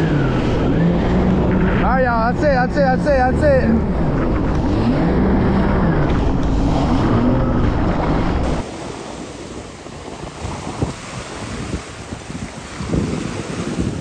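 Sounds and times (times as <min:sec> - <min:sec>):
jet ski engine running: 0:00.0 - 0:14.0
water noise: 0:00.0 - 0:14.0
wind buffeting microphone: 0:00.0 - 0:14.0.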